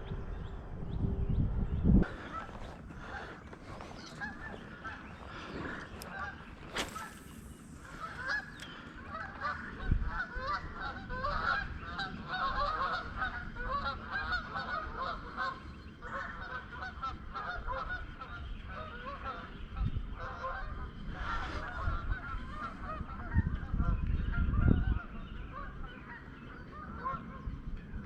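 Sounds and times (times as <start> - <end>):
geese honking: 2.0 - 27.5.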